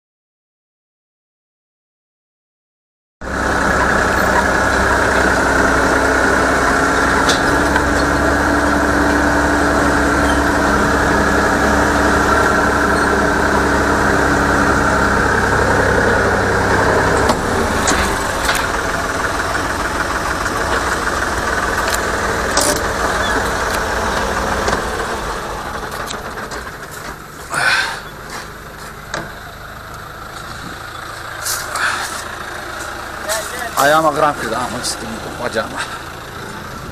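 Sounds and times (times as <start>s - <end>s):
harvesting machine engine drone: 3.2s - 36.9s.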